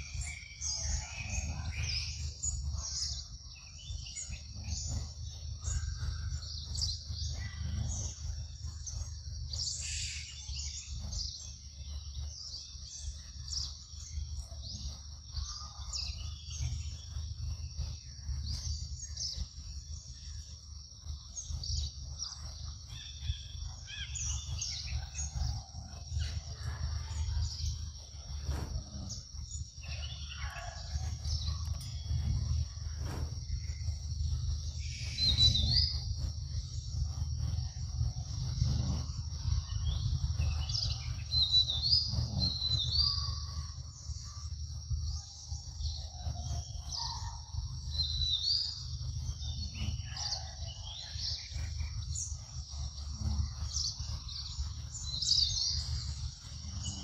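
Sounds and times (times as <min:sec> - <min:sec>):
bird chirps: 0:00.0 - 0:57.0
high-pitched insect drone: 0:00.0 - 0:57.0
low rumble: 0:00.0 - 0:57.0.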